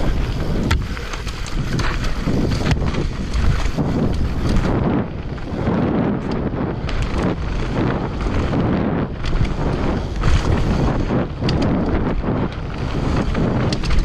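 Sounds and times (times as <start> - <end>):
bike knocking and rattling: 0.0 - 14.0
wind buffeting microphone: 0.0 - 14.0.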